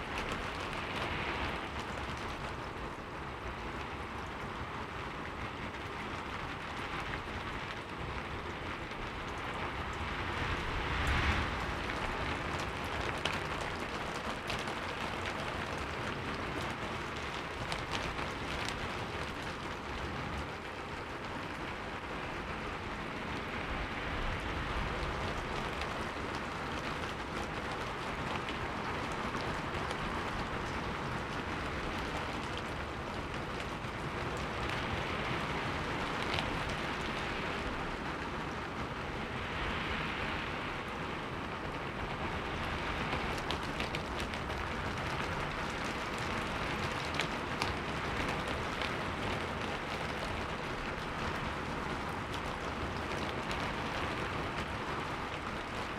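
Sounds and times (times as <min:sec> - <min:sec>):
heavy rain falling: 0:00.0 - 0:55.9
raindrop ticks: 0:00.0 - 0:55.9.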